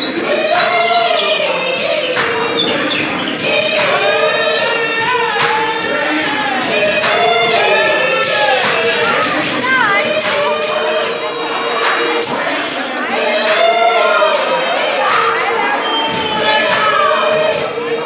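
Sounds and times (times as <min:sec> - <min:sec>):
group singing in chorus: 0:00.0 - 0:18.0.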